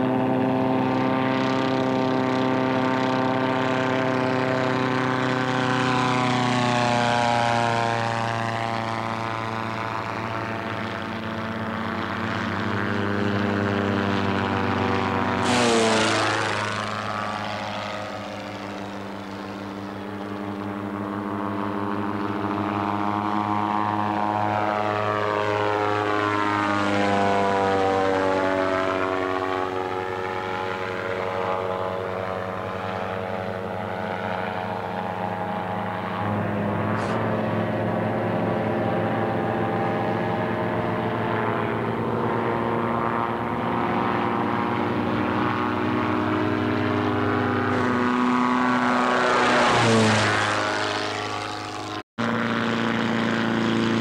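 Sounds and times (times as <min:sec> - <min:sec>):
gyrocopter engine and propeller droning: 0:00.0 - 0:54.0.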